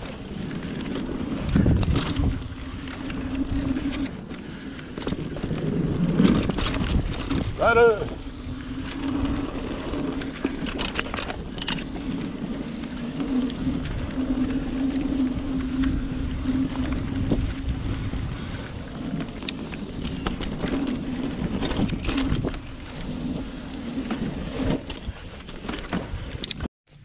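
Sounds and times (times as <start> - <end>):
bike clicking and rattling: 0.0 - 27.0
bike tyres rolling on dirt: 0.0 - 27.0.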